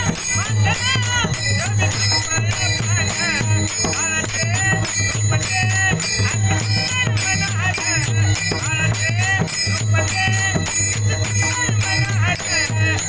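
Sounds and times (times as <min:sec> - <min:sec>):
hand cymbals and bells: 0:00.0 - 0:13.0
low drum beat: 0:00.0 - 0:13.0.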